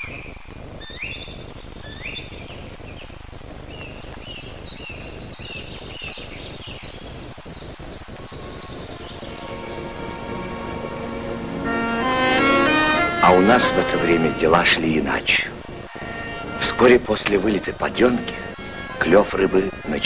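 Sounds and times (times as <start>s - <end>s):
birds singing: 0.0s - 20.0s
steady background hiss: 0.0s - 20.0s.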